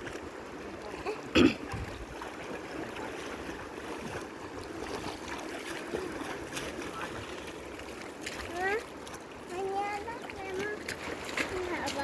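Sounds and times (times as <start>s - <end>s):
river water running: 0.0s - 12.0s.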